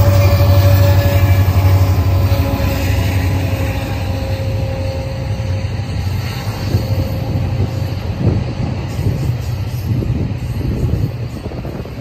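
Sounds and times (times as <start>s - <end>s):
diesel locomotive engines rumbling: 0.0s - 12.0s
steady whine: 0.0s - 12.0s
train cars rolling on track: 0.0s - 12.0s.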